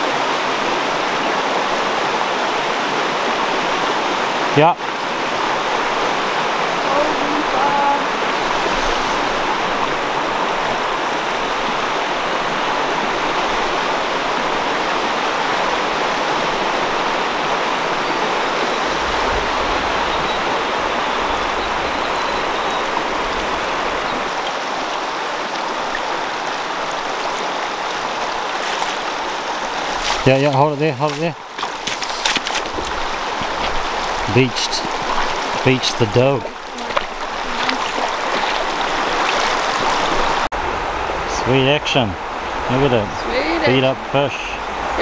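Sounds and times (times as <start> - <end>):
stream water flowing: 0.0 - 45.0.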